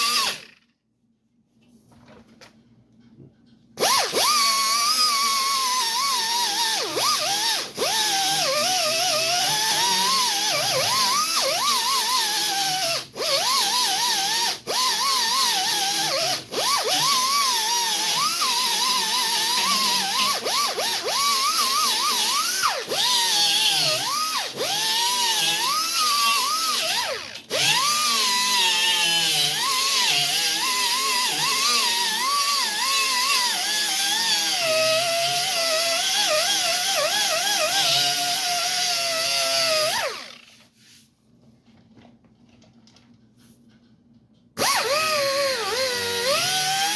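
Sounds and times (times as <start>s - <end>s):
power tool grinding body filler: 0.0s - 0.6s, 3.8s - 40.6s, 44.6s - 46.9s.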